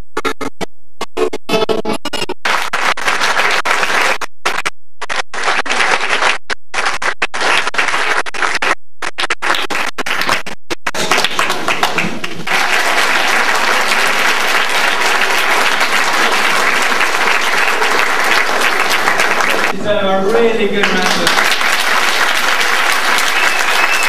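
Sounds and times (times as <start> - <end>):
audience applauding: 2.4 - 24.0.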